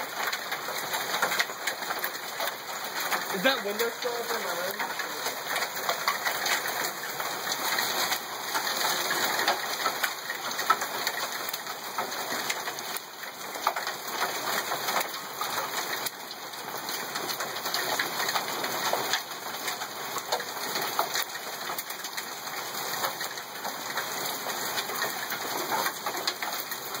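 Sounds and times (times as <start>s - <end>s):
hail ticking on ground: 0.0s - 27.0s
heavy rain: 0.0s - 27.0s.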